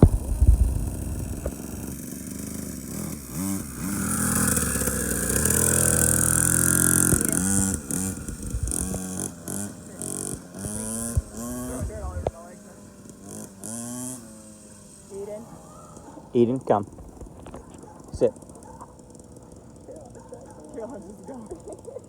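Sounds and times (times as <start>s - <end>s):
small motorcycle engine revving: 0.0s - 22.0s.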